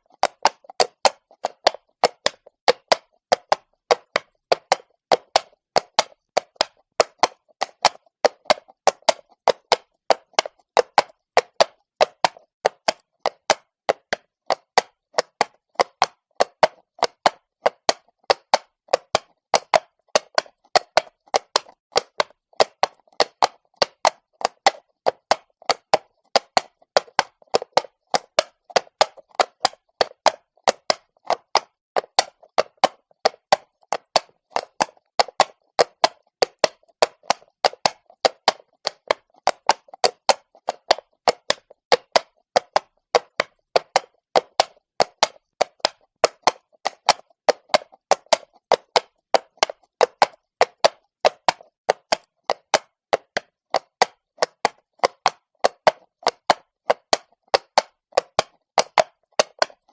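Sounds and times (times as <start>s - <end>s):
horse hooves on stone: 0.0s - 59.9s.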